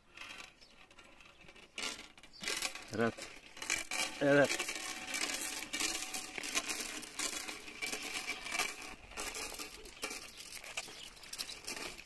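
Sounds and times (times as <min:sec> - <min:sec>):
small clicks and clinks: 0:00.1 - 0:12.0.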